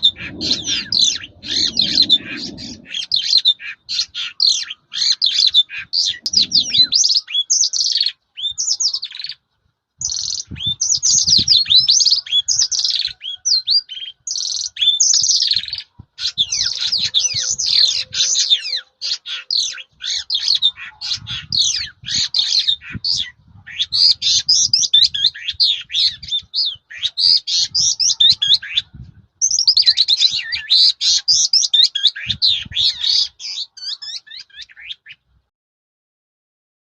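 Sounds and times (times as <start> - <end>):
lark singing: 0.0 - 9.4, 10.0 - 35.3.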